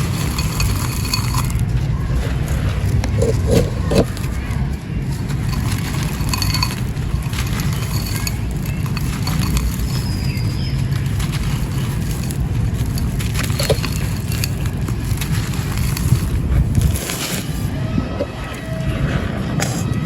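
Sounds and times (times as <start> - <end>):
clay pot crumbling gritty crunches: 0.0 - 17.7
steady low rumble: 0.0 - 20.0.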